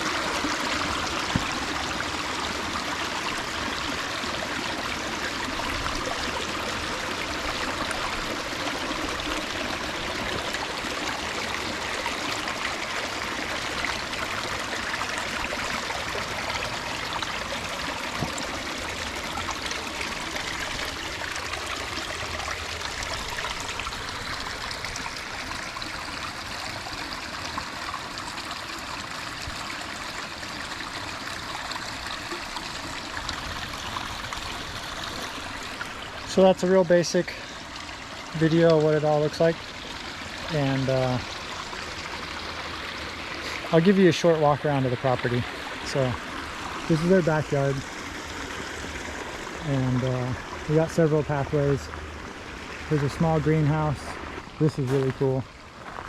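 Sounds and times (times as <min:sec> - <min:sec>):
water splashing down waterfall: 0:00.0 - 0:55.9.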